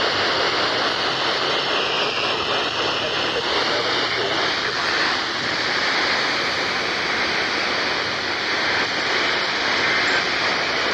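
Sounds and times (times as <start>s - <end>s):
radio static hiss: 0.2s - 10.9s.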